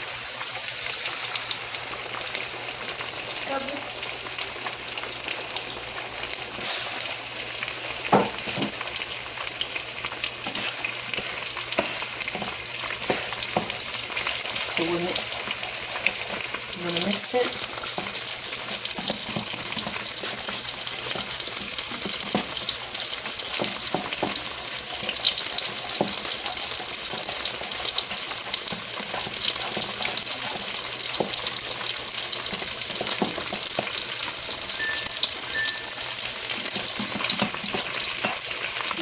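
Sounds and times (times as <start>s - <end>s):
eggs sizzling in hot oil: 0.0s - 39.0s.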